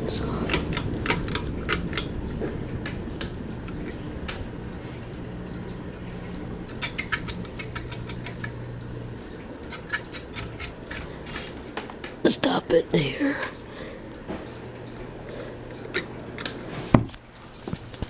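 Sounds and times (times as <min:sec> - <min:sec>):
ceiling fan motor humming: 0:00.0 - 0:18.0
fan clicks: 0:00.0 - 0:18.0.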